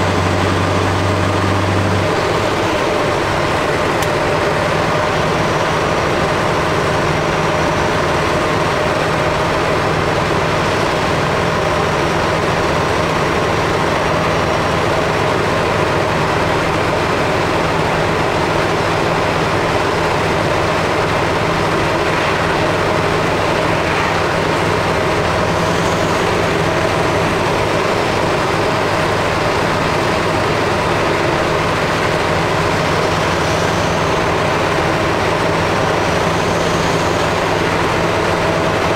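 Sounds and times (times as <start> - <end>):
diesel truck engine drone: 0.0 - 38.9
road noise hiss: 0.0 - 38.9.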